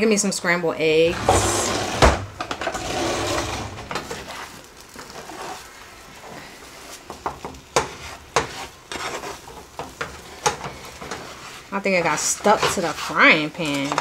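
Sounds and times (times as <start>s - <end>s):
eggs sizzling in a frying pan: 0.0s - 14.0s
utensil scraping a pan: 0.9s - 14.0s.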